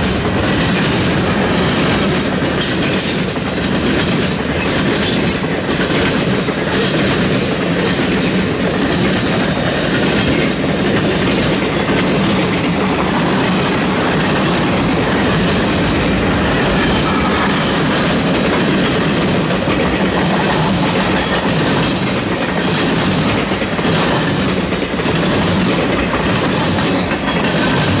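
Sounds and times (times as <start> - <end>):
clickety-clack over track: 0.0 - 28.0
freight train wheels rumbling on rail: 0.0 - 28.0.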